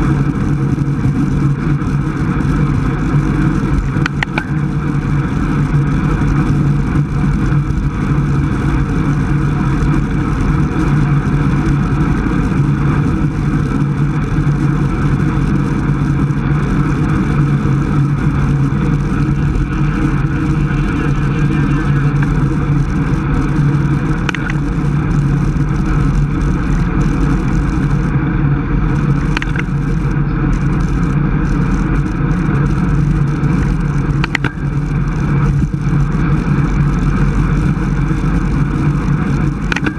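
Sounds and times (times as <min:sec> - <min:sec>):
bicycle tyre road noise: 0:00.0 - 0:39.9
wind rush: 0:00.0 - 0:39.9.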